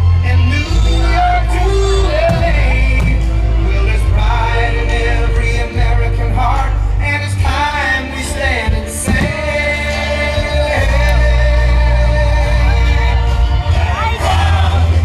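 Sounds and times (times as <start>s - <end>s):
music with a singer: 0.0s - 15.0s
steady bass: 0.0s - 15.0s.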